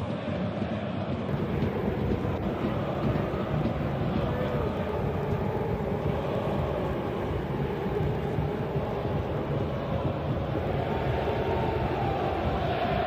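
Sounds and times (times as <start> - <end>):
football match crowd rumble: 0.0 - 13.0.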